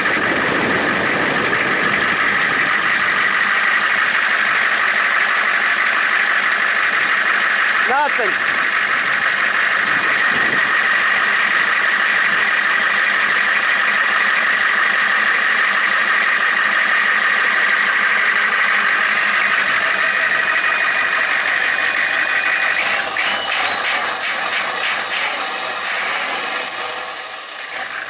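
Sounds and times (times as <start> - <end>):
monster truck engine running: 0.0 - 28.0.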